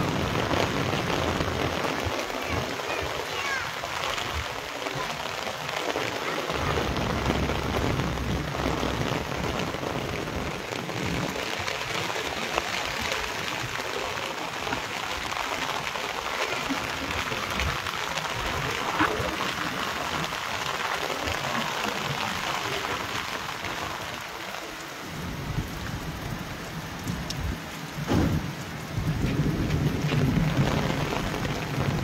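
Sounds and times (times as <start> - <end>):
heavy rain on concrete roof: 0.0 - 32.0.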